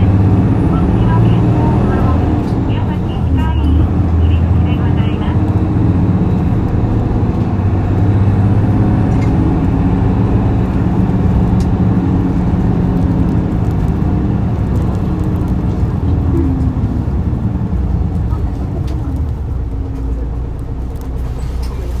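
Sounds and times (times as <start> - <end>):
bus diesel engine revving: 0.0 - 22.0.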